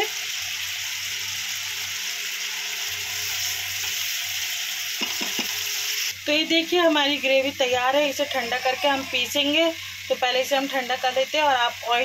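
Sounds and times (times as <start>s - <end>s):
masala sizzling in a frying pan: 0.0s - 12.0s.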